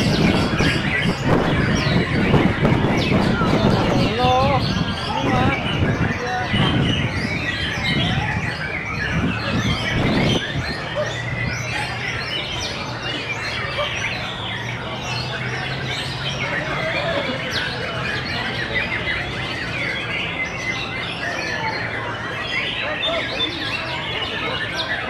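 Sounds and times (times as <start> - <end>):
songbirds chirping and whistling: 0.0 - 25.0.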